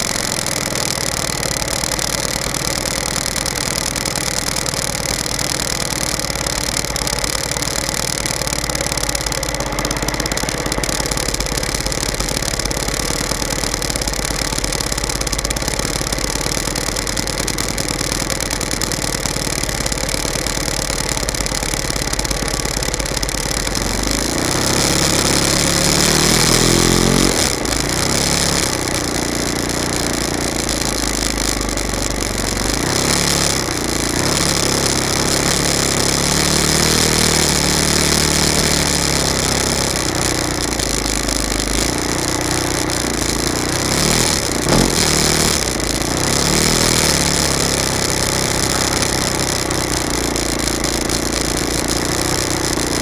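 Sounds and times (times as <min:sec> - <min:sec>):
model airplane engine running: 0:00.0 - 0:53.0.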